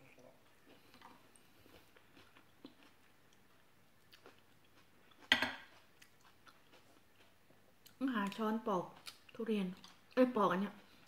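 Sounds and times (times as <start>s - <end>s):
person chewing: 0.0s - 10.2s.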